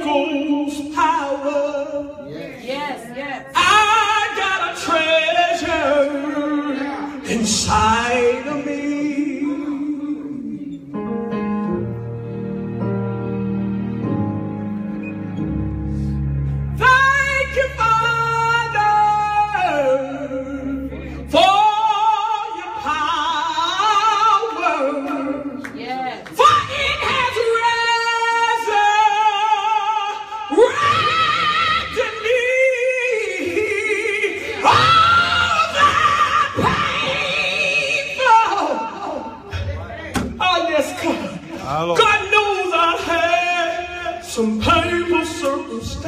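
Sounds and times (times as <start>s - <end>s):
woman singing with vibrato: 0.0s - 10.9s, 16.8s - 39.5s, 40.4s - 46.0s.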